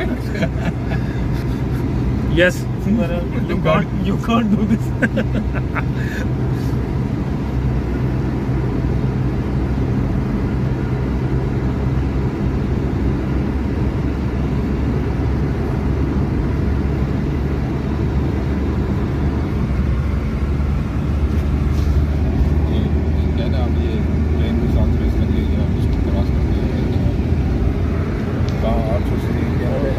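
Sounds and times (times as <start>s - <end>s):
car engine and road noise drone: 0.0s - 29.9s.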